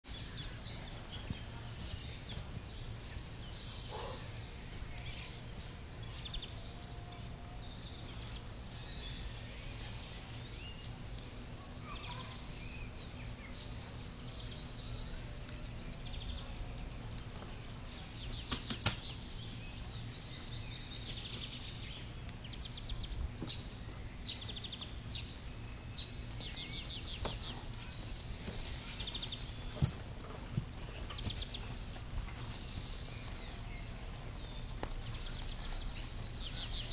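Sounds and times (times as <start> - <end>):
small birds chirping and trilling: 0.0 - 36.9
low wind rumble on microphone: 0.1 - 36.9.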